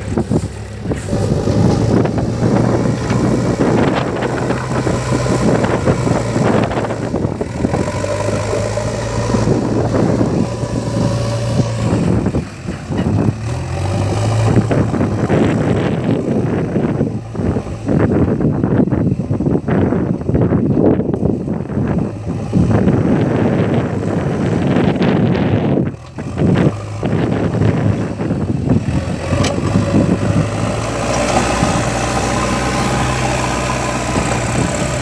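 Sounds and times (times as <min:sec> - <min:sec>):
loader rattling and knocking: 0:00.0 - 0:18.9, 0:22.0 - 0:35.0
diesel engine running: 0:00.0 - 0:35.0.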